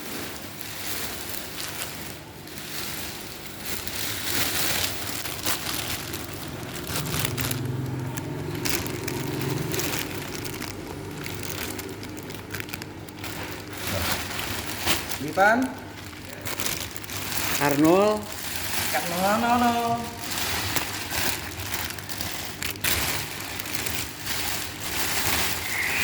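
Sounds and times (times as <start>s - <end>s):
crinkling handling noise: 0.0s - 26.0s.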